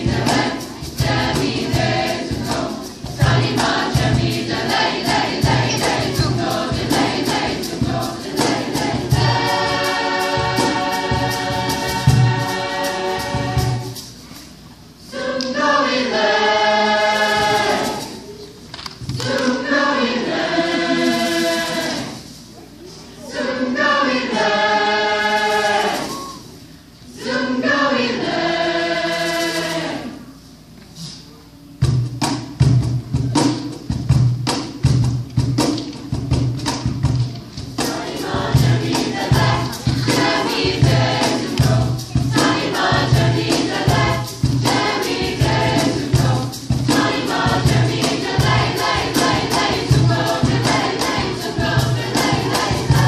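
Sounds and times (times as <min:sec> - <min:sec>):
choir singing: 0:00.0 - 0:14.2, 0:15.0 - 0:18.4, 0:19.1 - 0:22.5, 0:23.1 - 0:30.4, 0:37.8 - 0:53.0.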